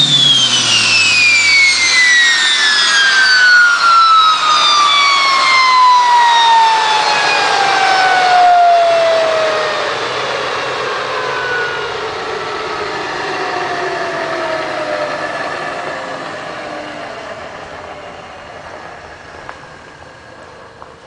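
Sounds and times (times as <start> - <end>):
gas turbine spooling down: 0.0 - 21.0.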